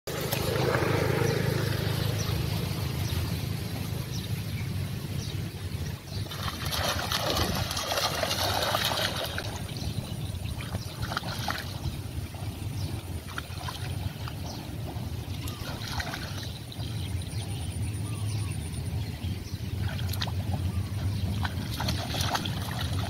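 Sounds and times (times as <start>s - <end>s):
dogs splashing through water: 0.1s - 17.6s, 18.2s - 23.0s
steady low rumble: 0.1s - 23.0s.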